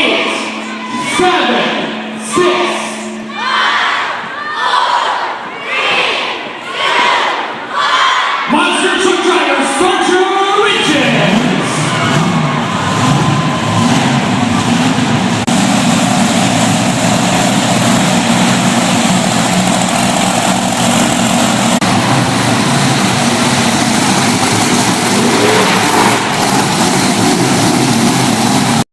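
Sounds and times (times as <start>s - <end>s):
monster truck engines roaring: 0.0s - 28.9s.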